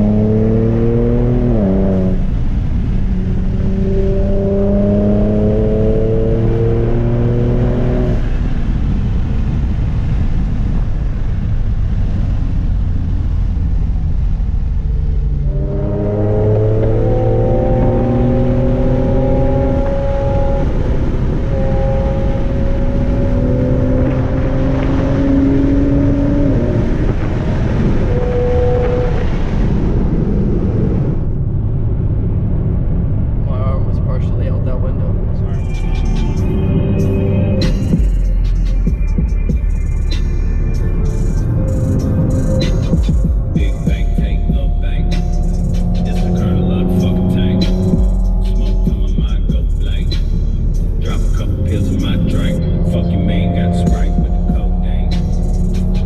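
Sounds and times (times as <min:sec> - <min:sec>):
car engine accelerating: 0:00.0 - 0:56.0
road and tyre rumble: 0:00.0 - 0:56.0.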